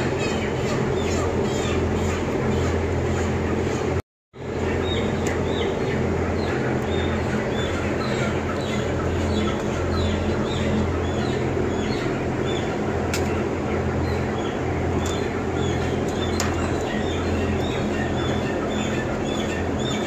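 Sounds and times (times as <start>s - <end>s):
chickens cheeping: 0.0s - 20.0s
fans running: 0.0s - 20.0s
low electrical hum: 0.0s - 20.0s.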